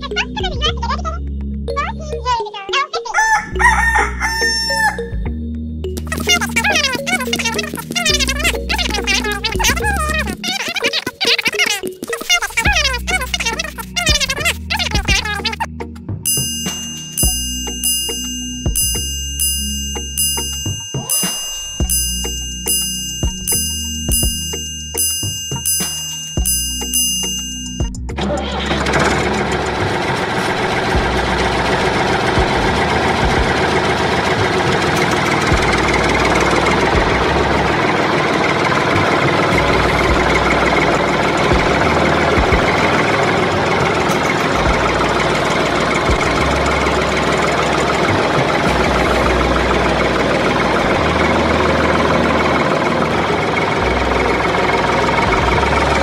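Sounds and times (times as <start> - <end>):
truck engine idling: 5.9 - 56.0.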